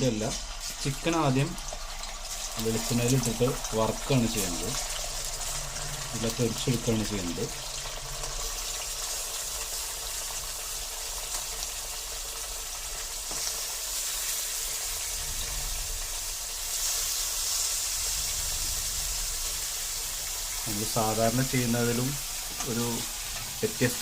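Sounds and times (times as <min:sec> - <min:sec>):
chicken frying in oil: 0:00.0 - 0:24.0.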